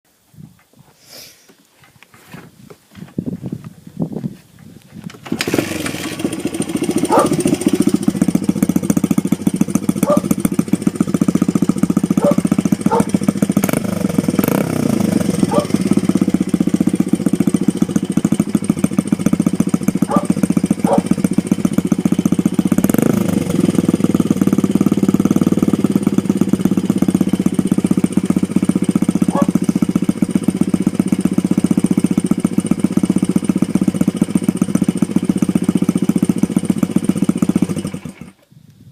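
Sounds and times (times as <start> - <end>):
dirt bike engine idling: 5.1 - 38.4.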